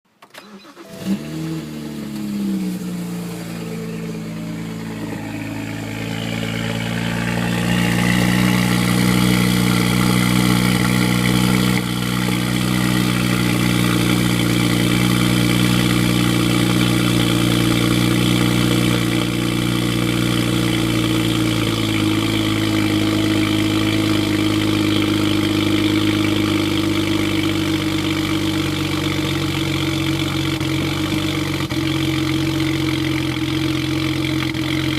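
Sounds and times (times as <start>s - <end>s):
car engine cold start idling: 0.1s - 34.9s.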